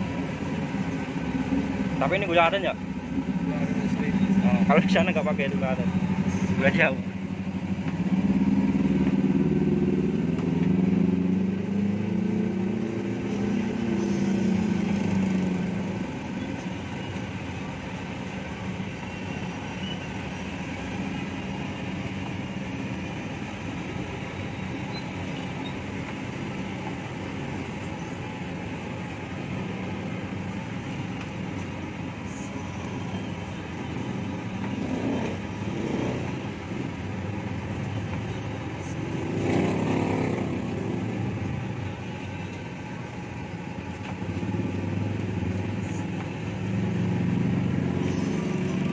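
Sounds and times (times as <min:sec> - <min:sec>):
passing traffic rumble: 0:00.0 - 0:48.9
vehicle engine running close by: 0:00.0 - 0:48.9.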